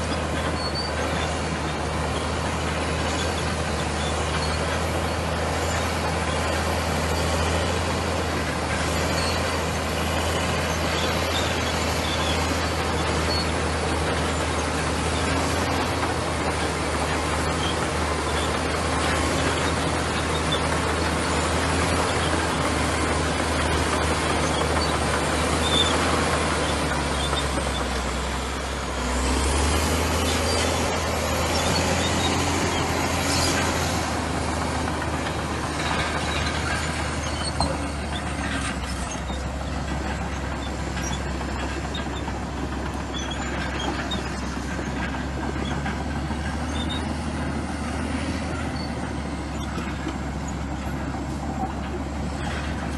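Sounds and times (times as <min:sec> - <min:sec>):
bulldozer diesel engine humming: 0:00.0 - 0:52.9.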